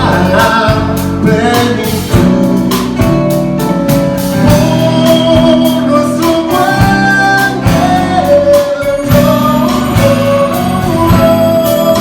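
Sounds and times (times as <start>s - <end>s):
singers performing a hymn: 0.0s - 2.6s, 4.4s - 12.0s
guitar: 0.0s - 12.0s.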